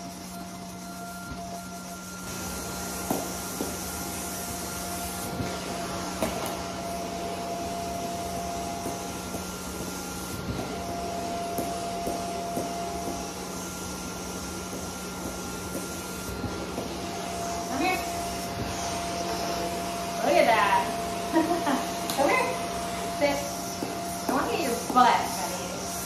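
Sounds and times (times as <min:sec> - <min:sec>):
vacuum humming and whining: 0:00.0 - 0:26.0.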